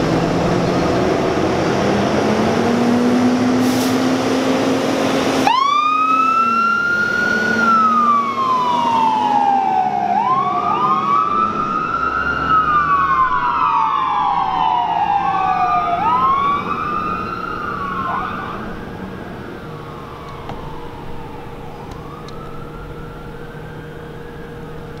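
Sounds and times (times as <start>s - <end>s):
fire truck sirens wailing: 0.0s - 25.0s.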